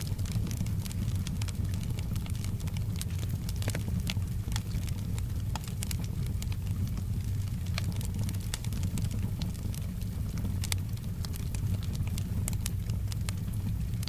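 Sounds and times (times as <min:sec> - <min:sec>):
soft rain: 0:00.0 - 0:14.0
wood fire crackling: 0:00.0 - 0:14.0.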